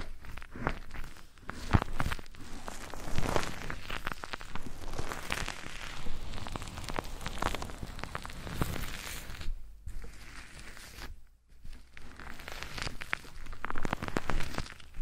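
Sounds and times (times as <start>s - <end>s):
scratching on a microphone: 0.0s - 15.0s.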